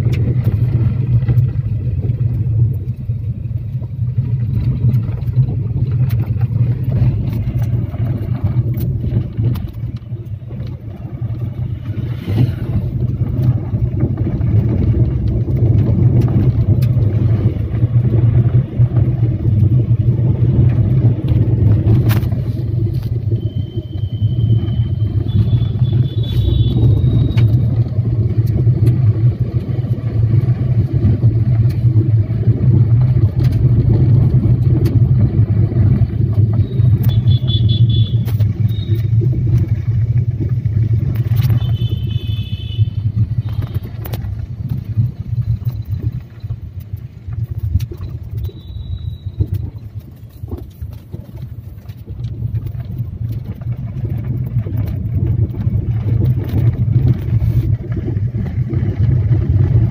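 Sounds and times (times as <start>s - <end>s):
motorcycle engine rumble: 0.0s - 59.9s
wind: 0.0s - 59.9s.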